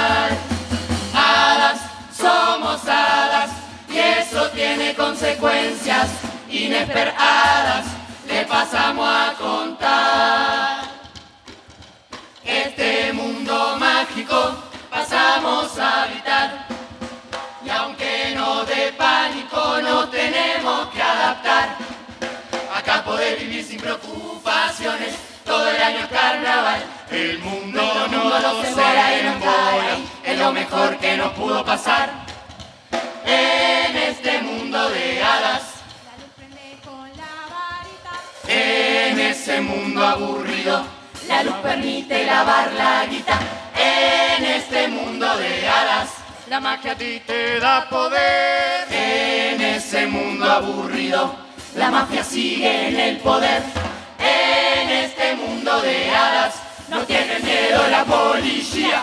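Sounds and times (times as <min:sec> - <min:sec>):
chorus singing together: 0:00.0 - 0:36.3, 0:37.8 - 0:59.0
drum beat: 0:00.0 - 0:59.0.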